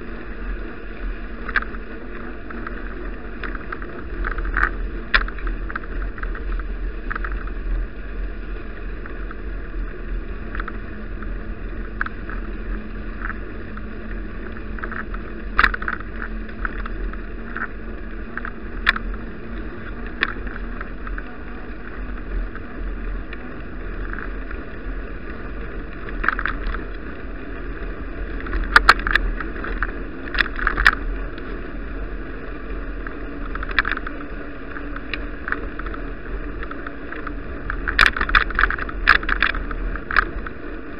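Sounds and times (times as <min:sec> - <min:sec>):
tyre and wind rumble: 0:00.0 - 0:40.9
bike rattling clicks and knocks: 0:01.4 - 0:07.6, 0:10.4 - 0:22.8, 0:24.0 - 0:31.6, 0:33.0 - 0:40.9.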